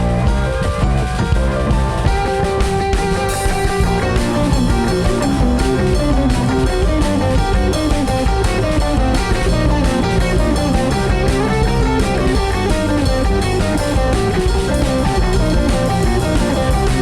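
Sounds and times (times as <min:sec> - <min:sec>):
guitar-led band music: 0:00.0 - 0:17.0.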